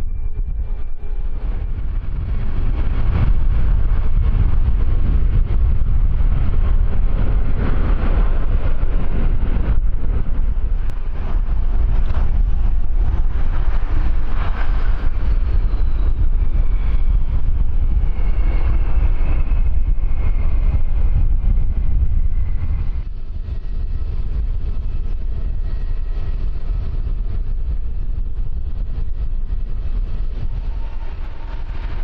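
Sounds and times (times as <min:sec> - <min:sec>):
aircraft engine whine: 0:00.0 - 0:32.0
wind rumble on microphone: 0:00.0 - 0:32.0.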